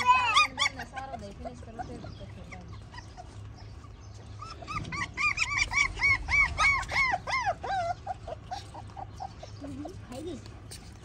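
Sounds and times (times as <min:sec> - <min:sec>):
puppy yelping: 0:00.0 - 0:10.1.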